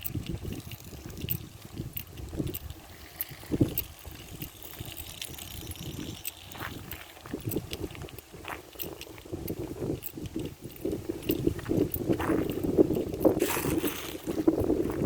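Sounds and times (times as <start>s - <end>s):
clicks and crackles: 0.0s - 14.8s
gusting wind buffeting microphone: 0.0s - 15.0s.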